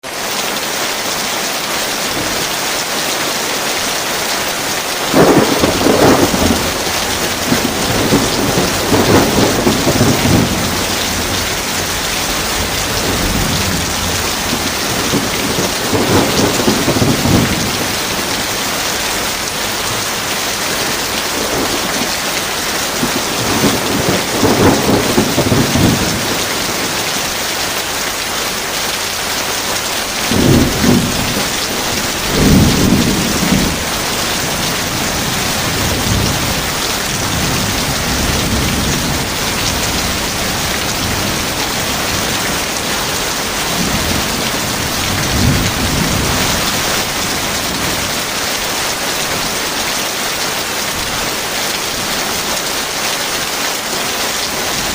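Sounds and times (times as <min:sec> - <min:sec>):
heavy rain: 0:00.0 - 0:54.9
thunder rumbling: 0:05.0 - 0:49.5.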